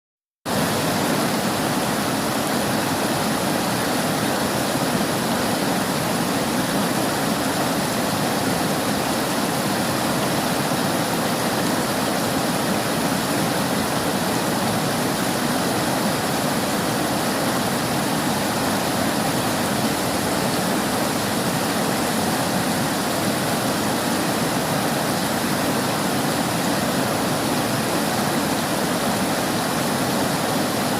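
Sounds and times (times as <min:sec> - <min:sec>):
river water rushing: 0:00.5 - 0:30.9.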